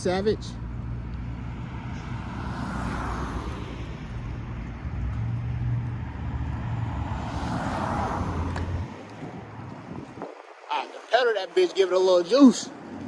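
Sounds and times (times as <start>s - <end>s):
cars passing by: 0.0s - 13.0s
low traffic rumble: 0.0s - 13.0s.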